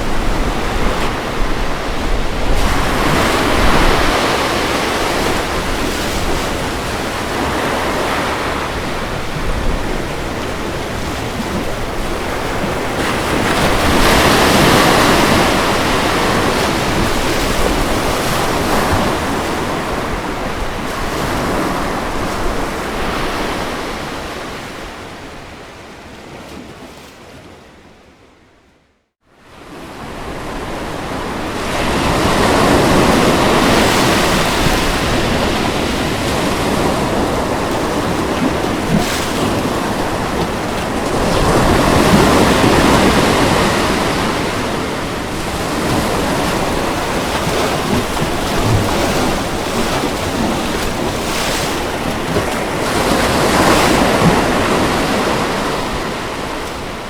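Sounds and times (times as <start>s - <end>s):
ocean waves breaking on shore: 0.0s - 28.4s, 29.3s - 57.0s.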